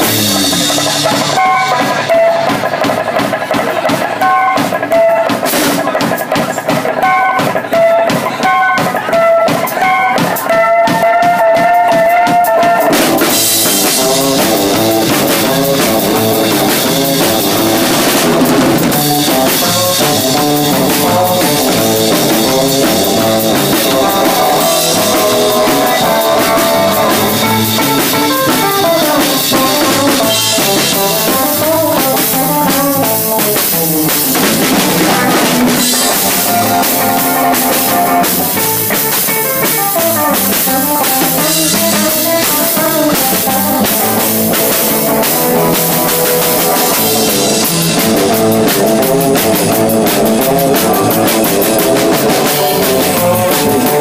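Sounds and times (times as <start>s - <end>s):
bass guitar: 0.0s - 54.0s
cymbals: 0.0s - 54.0s
drum kit beat: 0.0s - 54.0s
electric guitar lead: 0.0s - 54.0s.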